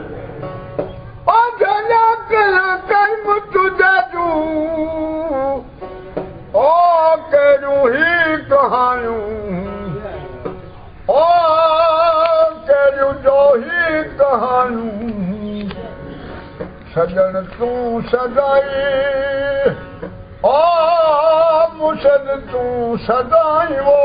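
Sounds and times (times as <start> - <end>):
plucked string instrument: 0.0 - 24.0
man singing: 1.2 - 5.7, 6.5 - 16.0, 16.9 - 24.0.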